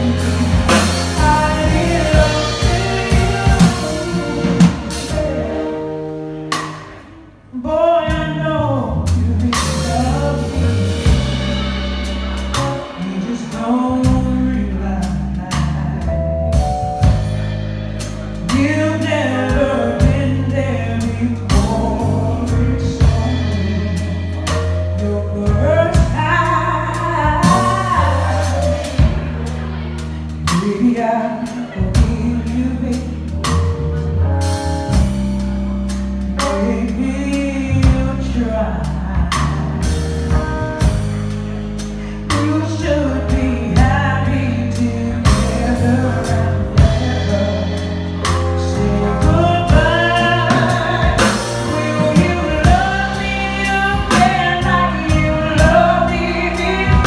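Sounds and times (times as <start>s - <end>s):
woman singing: 0.0s - 6.1s, 7.5s - 11.8s, 12.6s - 16.7s, 18.4s - 29.3s, 30.4s - 33.7s, 36.4s - 41.0s, 42.3s - 57.0s
live band playing: 0.0s - 57.0s.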